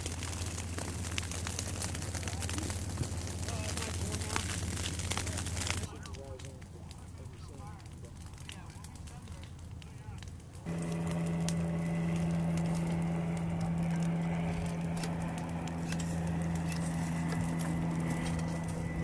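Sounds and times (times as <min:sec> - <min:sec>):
fire crackling and popping: 0:00.0 - 0:19.0
low mechanical hum: 0:00.0 - 0:19.0.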